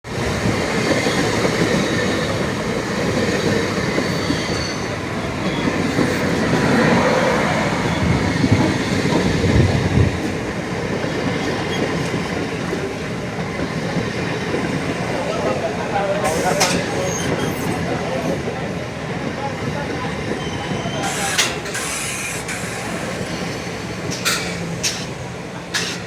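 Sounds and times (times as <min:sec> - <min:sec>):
train wheels clattering on track: 0:00.1 - 0:26.0.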